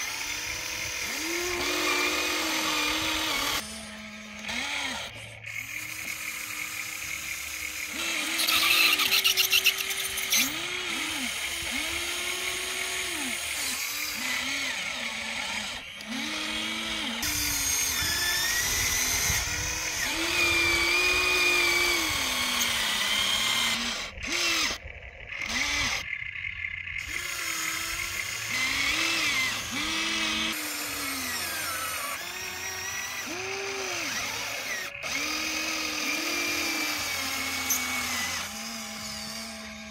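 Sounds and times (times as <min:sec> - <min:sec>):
electric gear motors whining: 0:00.0 - 0:39.9.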